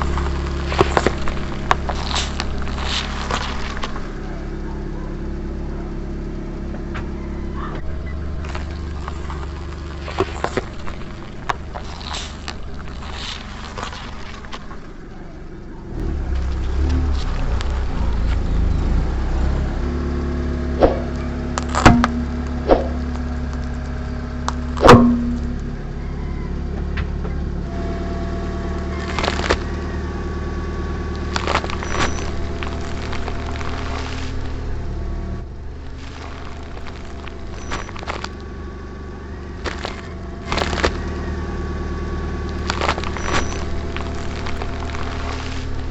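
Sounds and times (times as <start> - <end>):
car engine running: 0.0 - 45.9
objects bursting under tyres: 0.0 - 45.9.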